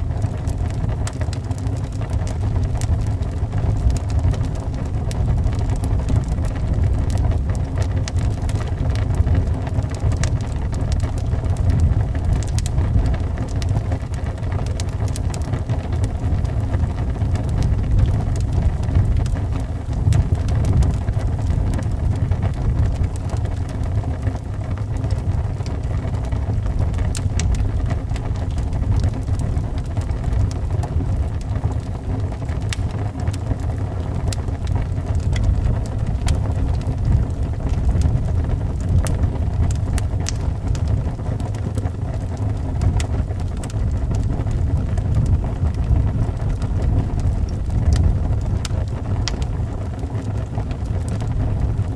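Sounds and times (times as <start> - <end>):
howling wind: 0.0 - 51.9
wood fire crackling and popping: 0.0 - 51.9.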